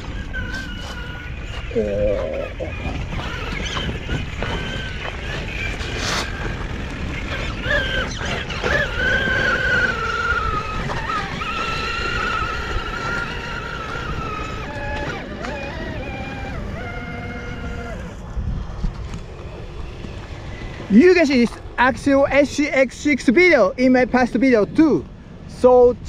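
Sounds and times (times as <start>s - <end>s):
electric motor and gearbox whining: 0.0s - 25.9s
low rumbling noise: 0.0s - 26.0s.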